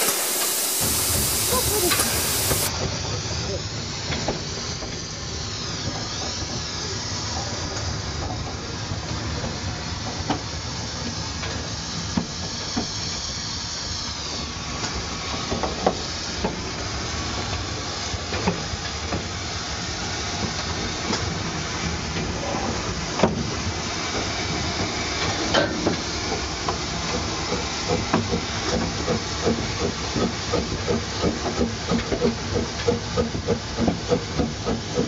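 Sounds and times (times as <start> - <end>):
steam locomotive hiss and rumble: 0.0 - 35.0.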